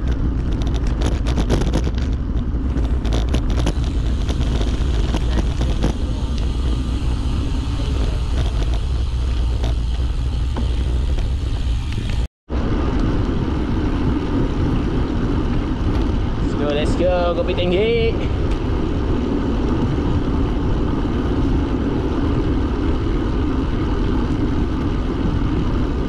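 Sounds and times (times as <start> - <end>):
road noise: 0.0 - 26.0
wind rush on microphone: 0.0 - 26.0.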